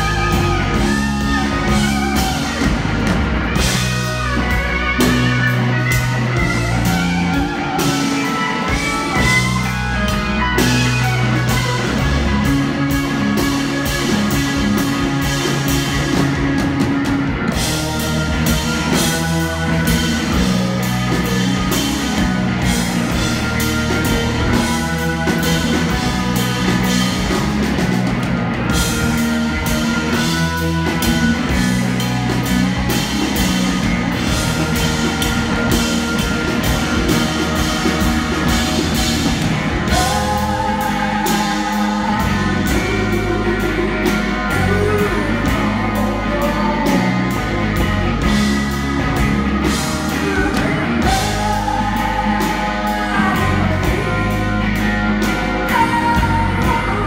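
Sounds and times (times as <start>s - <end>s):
drum kit: 0.0s - 57.0s
electric guitar lead: 0.0s - 57.0s.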